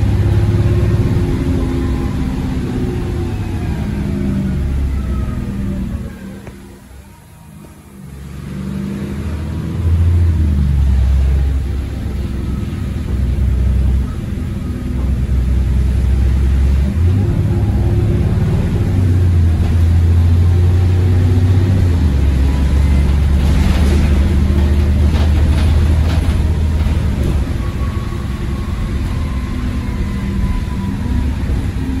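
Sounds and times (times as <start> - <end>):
bus diesel engine accelerating: 0.0 - 32.0.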